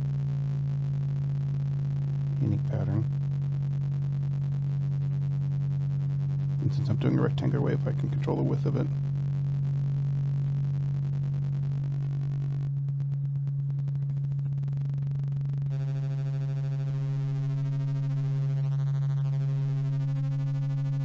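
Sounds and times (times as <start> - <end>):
modulated synthesizer tone: 0.0 - 21.0.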